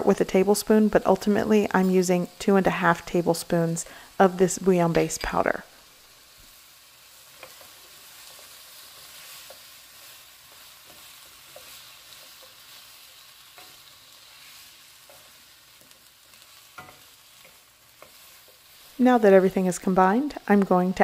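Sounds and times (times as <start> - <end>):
vegetables sizzling in pot: 0.0 - 21.0.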